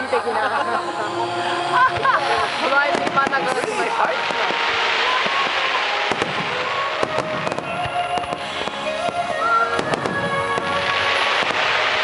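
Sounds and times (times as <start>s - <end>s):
fireworks bursting: 0.0s - 12.0s
music playing: 0.0s - 12.0s.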